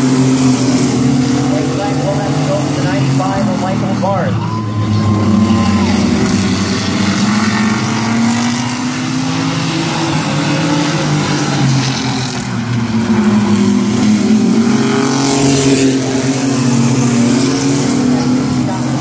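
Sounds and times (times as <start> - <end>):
racing truck engines: 0.0 - 19.0.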